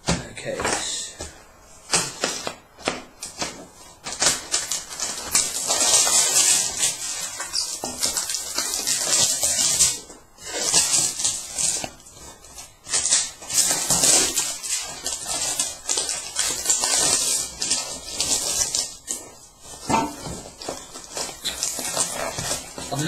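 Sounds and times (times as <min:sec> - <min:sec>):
plastic and cardboard crinkling: 0:00.1 - 0:23.0.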